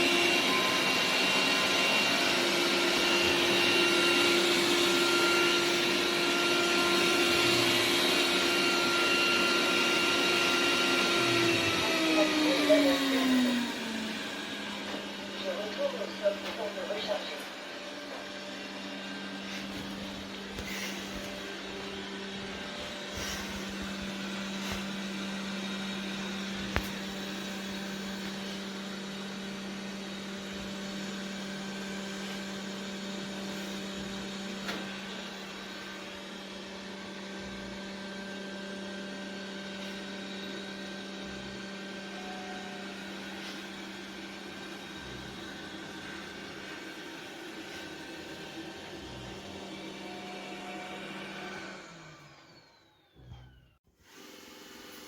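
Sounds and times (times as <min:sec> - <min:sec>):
robot vacuum motor whirring: 0:00.0 - 0:55.0.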